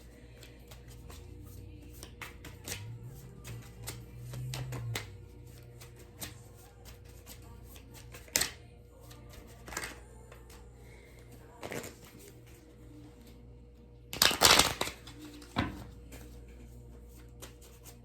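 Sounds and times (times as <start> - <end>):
cards being shuffled: 0.0 - 10.6, 11.6 - 12.6, 14.1 - 18.0.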